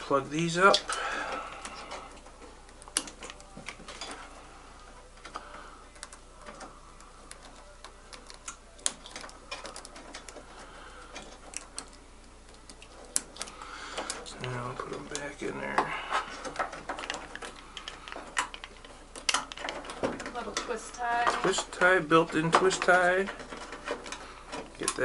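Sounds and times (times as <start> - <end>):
plastic connectors clicking and rustling: 0.0 - 4.3, 5.1 - 25.0.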